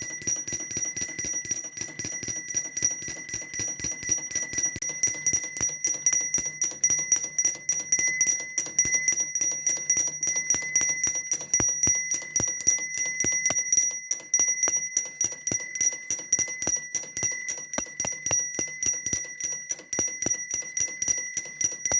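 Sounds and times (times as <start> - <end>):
alarm clock bell ringing: 0.0 - 21.9.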